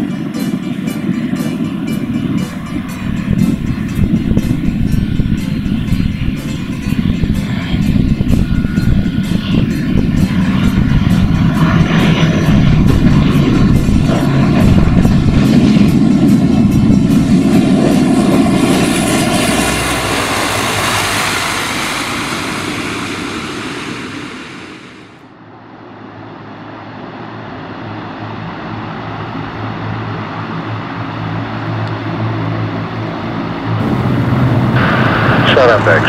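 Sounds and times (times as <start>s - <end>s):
low propeller drone: 0.0s - 36.0s
turboprop engines whining: 0.0s - 36.0s.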